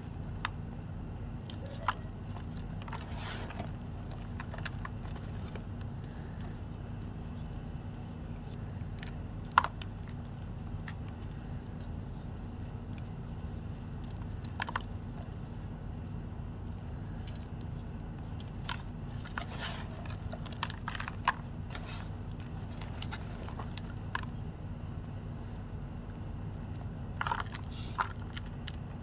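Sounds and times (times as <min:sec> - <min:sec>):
steady low hum: 0:00.0 - 0:29.0
chalk crunching and crackling: 0:01.4 - 0:24.4, 0:25.4 - 0:29.0.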